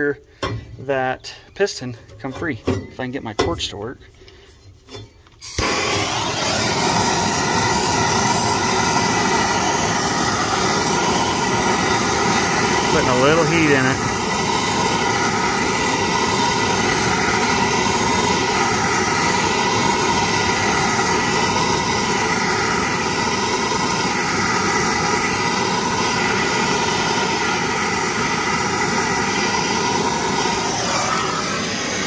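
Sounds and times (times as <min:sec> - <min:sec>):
gas torch hissing: 0:05.4 - 0:32.0.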